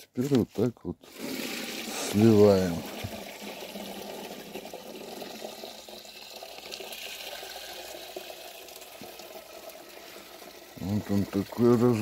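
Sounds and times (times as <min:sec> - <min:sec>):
water pouring from bucket: 0:01.0 - 0:12.0.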